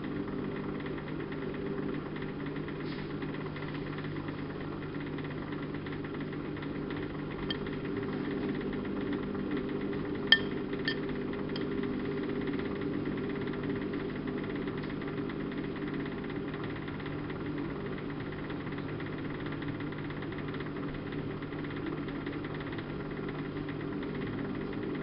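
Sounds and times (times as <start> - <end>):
washing machine drum humming: 3.3 - 25.0.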